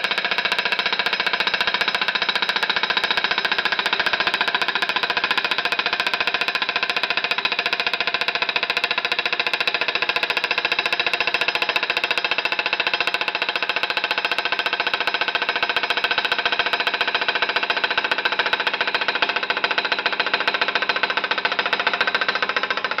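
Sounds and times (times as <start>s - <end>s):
metallic rattle on a metal plate: 0.0s - 23.0s.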